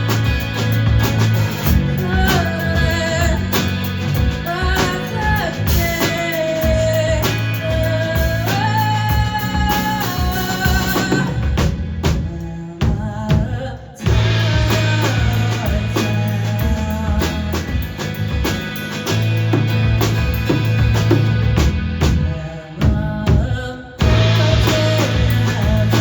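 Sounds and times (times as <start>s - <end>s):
heavy bass line: 0.0s - 12.5s, 14.1s - 23.1s, 24.0s - 26.0s
live band playing: 0.0s - 13.1s, 14.0s - 26.0s
drum kit kick and snare: 0.0s - 26.0s.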